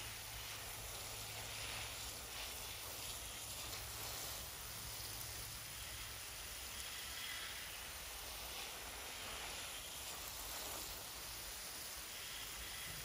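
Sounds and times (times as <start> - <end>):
hose nozzle spraying mist: 0.0 - 13.0.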